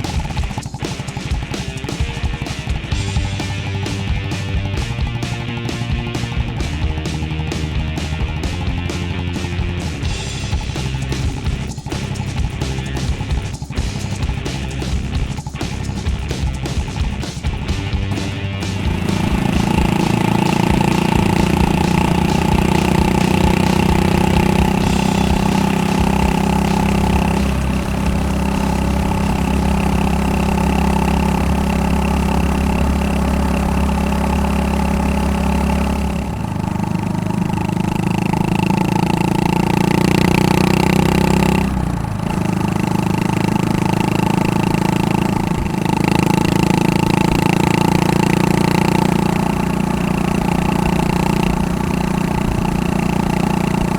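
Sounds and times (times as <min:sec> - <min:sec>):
motorcycle engine exhaust: 0:00.0 - 0:53.9.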